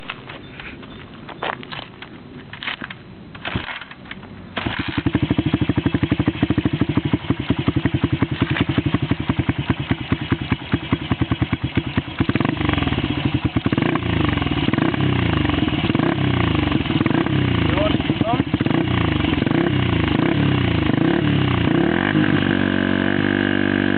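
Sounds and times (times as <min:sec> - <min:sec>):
motorcycle engine idling and revving: 0:03.4 - 0:23.9.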